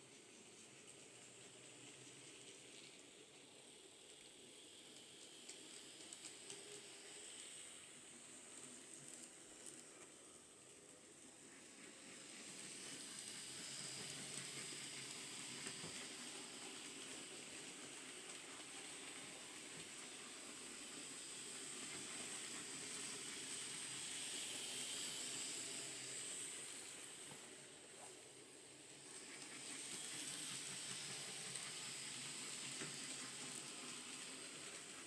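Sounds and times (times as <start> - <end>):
model train whirring on rails: 0.0 - 35.0.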